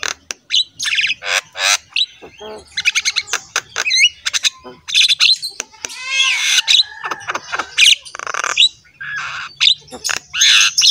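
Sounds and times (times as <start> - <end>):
bird squawking and chirping: 0.0 - 10.9.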